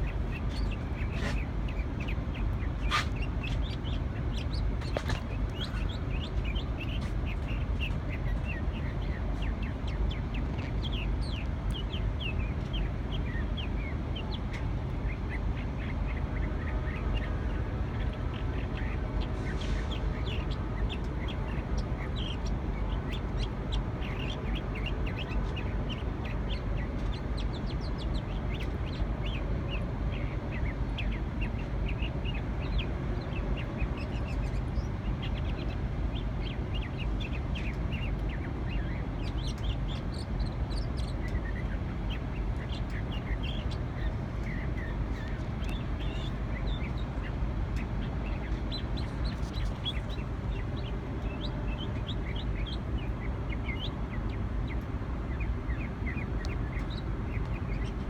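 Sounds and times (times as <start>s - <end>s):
bird singing rapid chirps: 0.0s - 58.0s.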